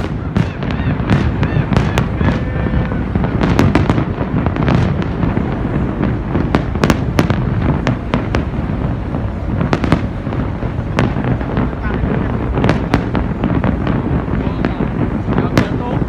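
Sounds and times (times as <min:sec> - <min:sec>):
fireworks bangs and crackles: 0:00.0 - 0:16.0
low rumble of fireworks: 0:00.0 - 0:16.0.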